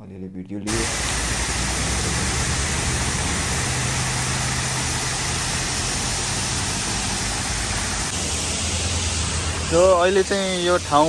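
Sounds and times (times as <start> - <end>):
large waterfall rushing: 0.7 - 11.0.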